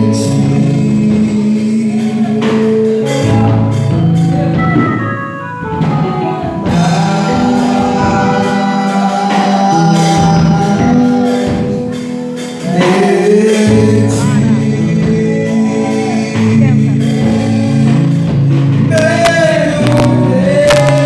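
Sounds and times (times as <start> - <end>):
gospel singing: 0.0 - 21.0
instrumental backing: 0.0 - 21.0
steady percussion beat: 0.0 - 21.0.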